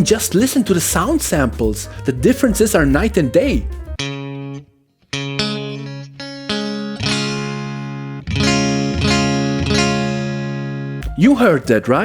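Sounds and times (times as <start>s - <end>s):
guitar chords strummed: 0.0s - 11.8s.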